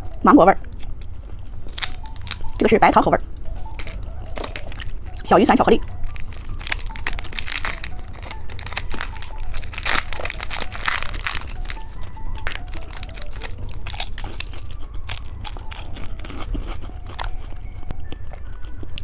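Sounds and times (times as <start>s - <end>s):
candy wrappers crinkling: 0.0s - 19.0s.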